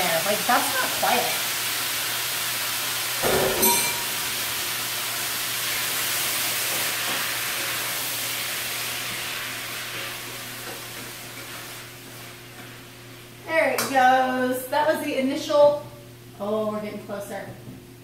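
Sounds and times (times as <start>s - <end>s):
tomatoes sizzling in oil: 0.0s - 14.6s.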